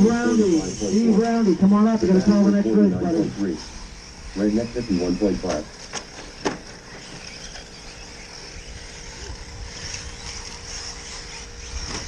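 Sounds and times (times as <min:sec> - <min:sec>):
rc trucks high whine: 0:00.0 - 0:12.0.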